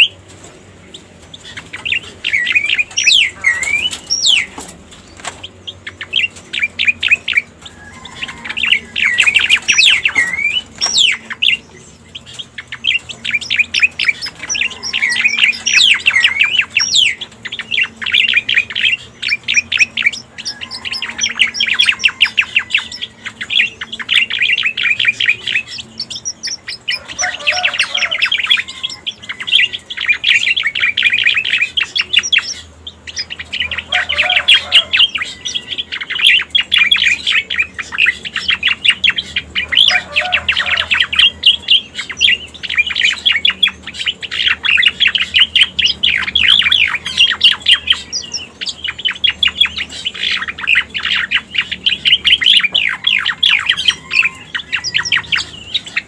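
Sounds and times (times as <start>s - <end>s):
bird song rapid chattering notes: 0.0s - 56.0s.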